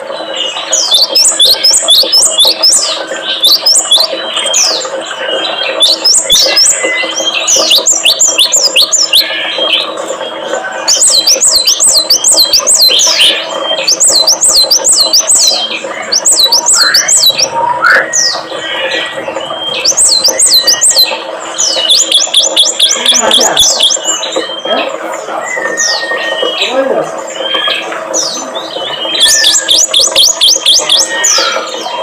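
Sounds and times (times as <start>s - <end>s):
songbird chirping: 0.0s - 32.0s.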